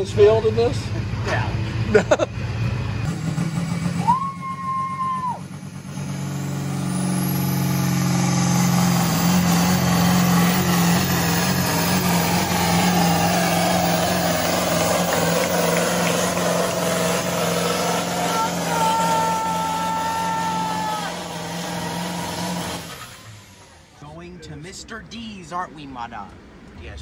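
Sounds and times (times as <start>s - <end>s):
tractor engine revving: 0.0s - 24.4s
rising whine: 1.6s - 23.9s.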